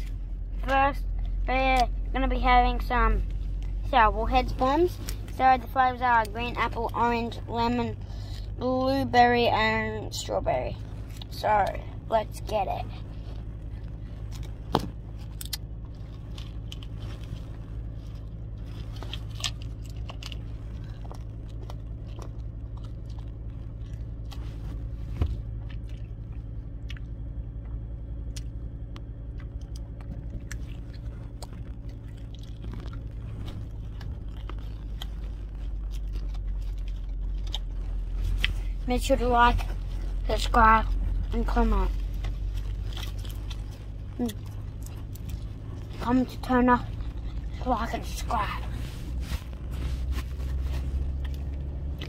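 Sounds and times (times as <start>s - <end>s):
car hum: 0.0s - 52.0s
chewing and crunching candy: 10.2s - 52.0s.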